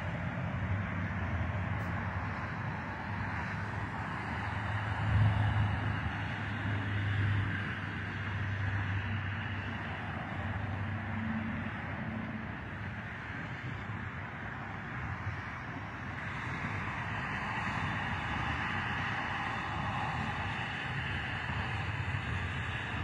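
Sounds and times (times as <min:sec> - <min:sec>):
highway traffic passing: 0:00.0 - 0:23.0.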